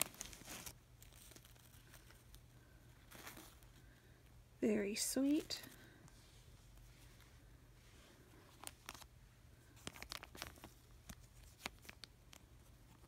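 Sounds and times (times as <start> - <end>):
light rustling of handled items: 0.0 - 13.0.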